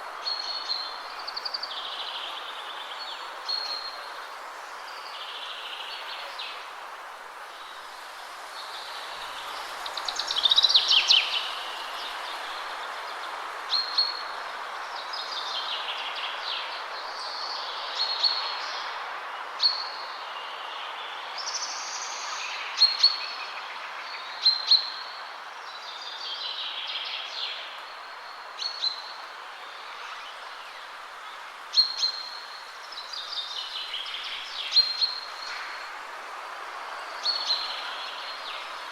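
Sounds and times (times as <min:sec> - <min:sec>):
songbirds singing and calling: 0:00.0 - 0:06.8, 0:07.5 - 0:38.9
wind rushing through trees: 0:00.0 - 0:38.9.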